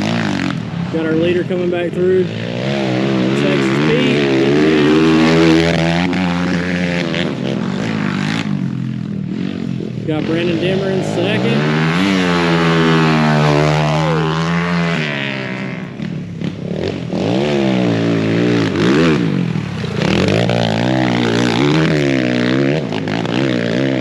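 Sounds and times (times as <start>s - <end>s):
motorbike engines revving: 0.0s - 24.0s.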